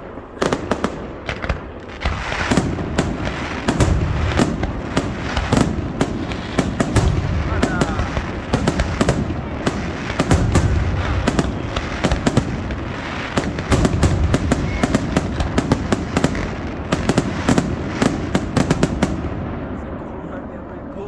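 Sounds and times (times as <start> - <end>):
fireworks crackling and popping: 0.0 - 19.8
low rumble of booms: 0.0 - 20.9.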